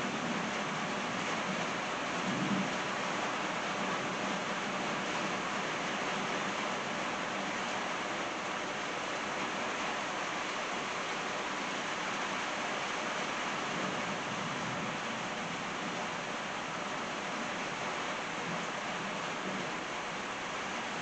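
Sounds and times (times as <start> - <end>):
steady rain shower: 0.0 - 21.0.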